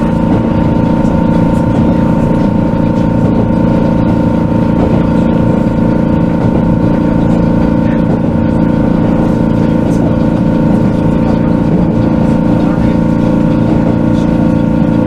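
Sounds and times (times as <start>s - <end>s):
electric train running noise: 0.0s - 15.0s.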